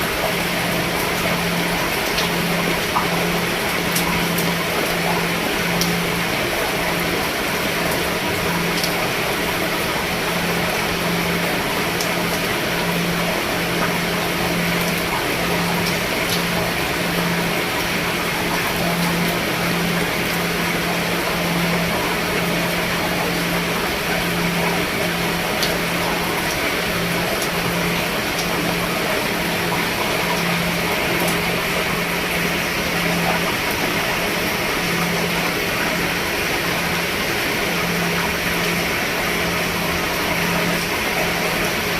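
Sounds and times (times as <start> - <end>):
rain falling on a roof: 0.0 - 41.9.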